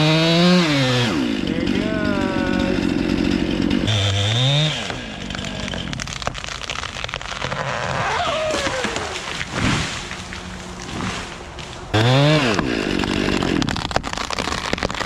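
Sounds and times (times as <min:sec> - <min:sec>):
chainsaw running: 0:00.0 - 0:15.0
wood crackling and snapping: 0:00.9 - 0:15.0.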